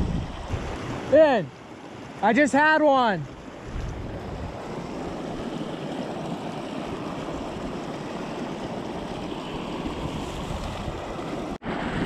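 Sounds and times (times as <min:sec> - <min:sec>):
creek rushing over cascade: 0:00.0 - 0:12.0.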